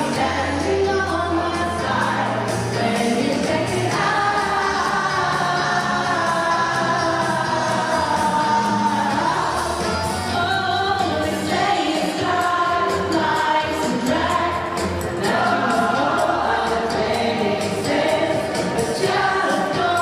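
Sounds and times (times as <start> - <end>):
choir singing in harmony: 0.0 - 20.0.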